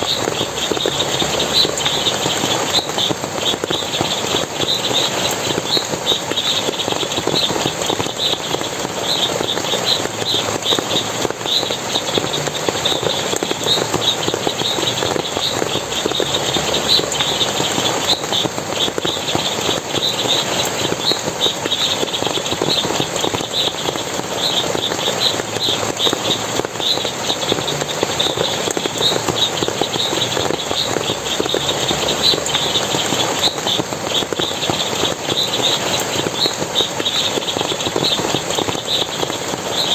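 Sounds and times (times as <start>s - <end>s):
splashing stream water: 0.0s - 39.9s.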